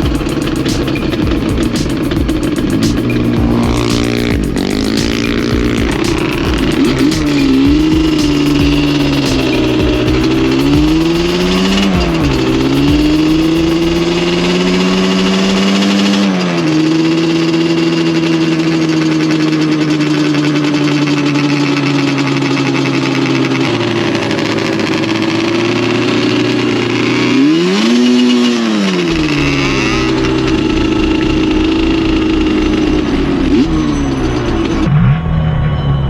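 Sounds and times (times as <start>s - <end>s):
atv engine running and revving: 0.0s - 35.0s.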